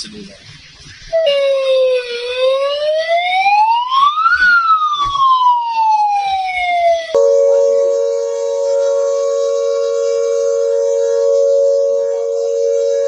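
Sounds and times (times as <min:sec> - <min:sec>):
warning siren wailing: 0:02.0 - 0:13.0.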